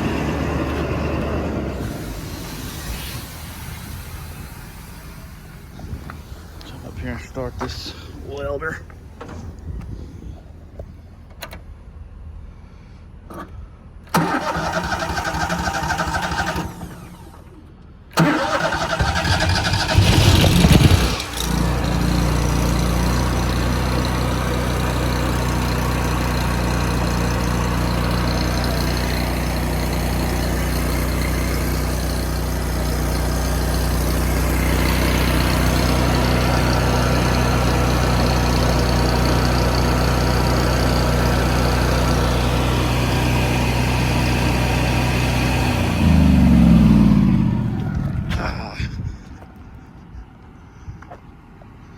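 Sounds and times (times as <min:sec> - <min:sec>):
welder engine cranking and running: 0:00.0 - 0:09.6, 0:14.1 - 0:46.3.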